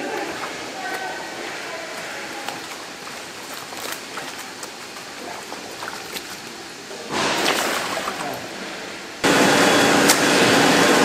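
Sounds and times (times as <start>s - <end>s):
water splashing and gurgling: 0.0s - 9.3s
bubbling water rush: 0.0s - 9.9s.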